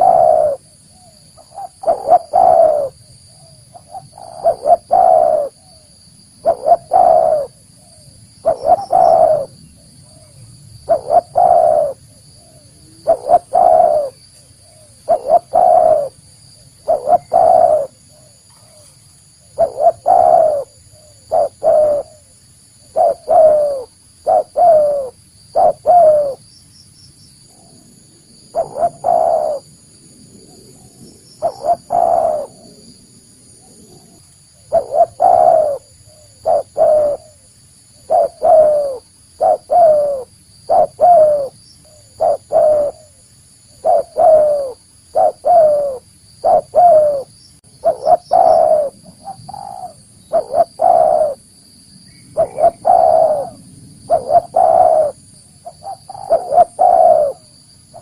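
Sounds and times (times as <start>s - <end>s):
dove cooing: 0.0s - 26.4s, 27.5s - 29.8s, 30.4s - 51.4s, 52.3s - 58.0s.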